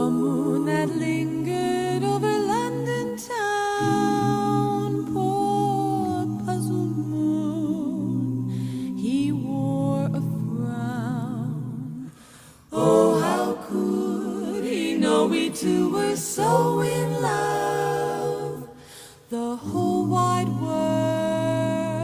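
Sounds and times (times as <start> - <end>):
a cappella vocal group singing: 0.0 - 22.0.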